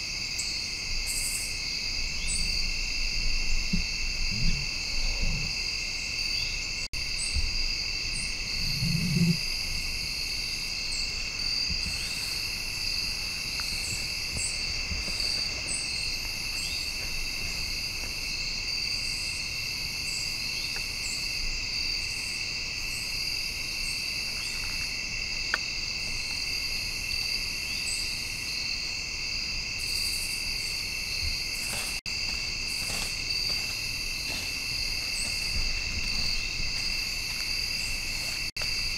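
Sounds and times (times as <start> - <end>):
crickets and insects trilling: 0.0 - 38.9.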